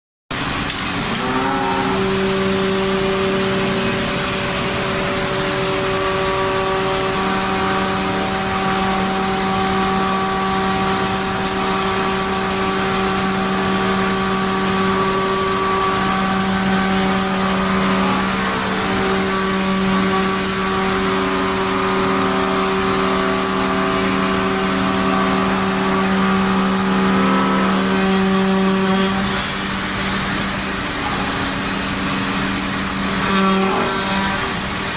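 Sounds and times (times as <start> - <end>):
router spindle high whine: 0.8 - 34.9.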